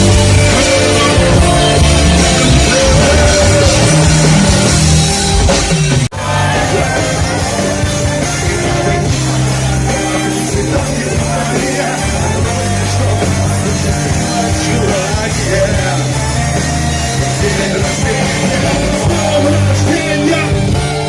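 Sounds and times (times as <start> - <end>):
person singing: 0.0 - 4.9, 6.1 - 21.0
live rock music: 0.0 - 21.0.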